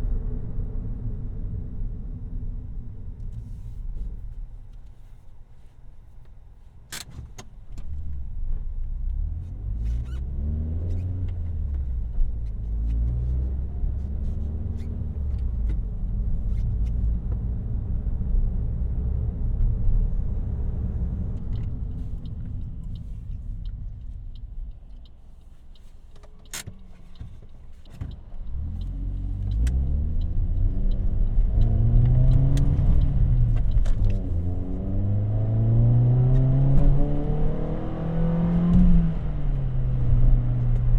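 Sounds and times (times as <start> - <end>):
car engine and exhaust revving: 8.0 - 40.9.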